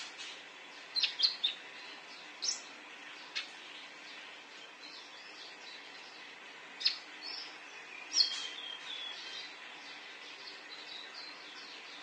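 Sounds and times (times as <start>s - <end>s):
bird chirping and trilling: 0.2s - 4.2s, 4.8s - 12.0s.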